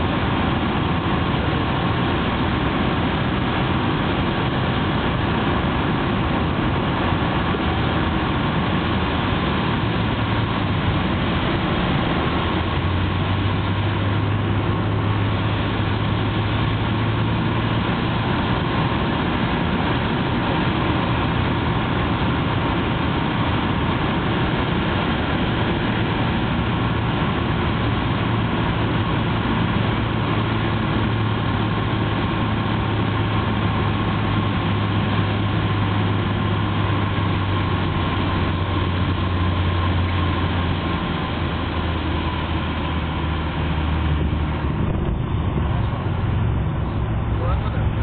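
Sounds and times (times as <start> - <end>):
aircraft engine drone: 0.0 - 48.0
rushing airflow: 0.0 - 48.0.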